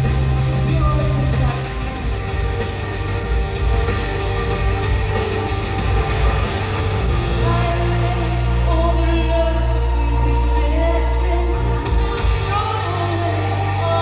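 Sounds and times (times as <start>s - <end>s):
live rock band through speakers: 0.0s - 14.0s.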